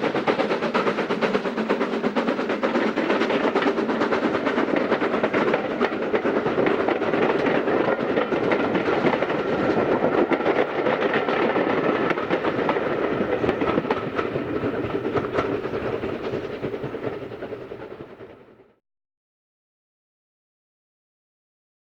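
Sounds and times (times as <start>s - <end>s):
train wheels clattering over rails: 0.0s - 18.8s.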